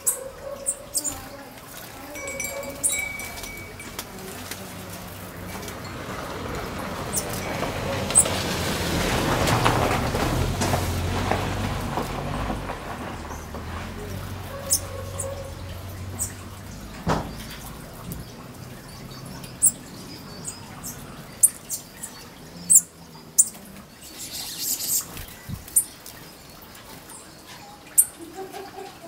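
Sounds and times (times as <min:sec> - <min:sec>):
small birds chirping: 0:00.0 - 0:08.4, 0:13.0 - 0:29.0.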